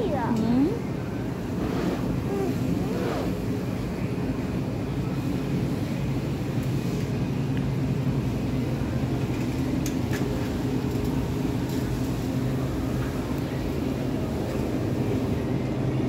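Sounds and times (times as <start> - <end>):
refrigerator low hum: 0.0 - 16.0.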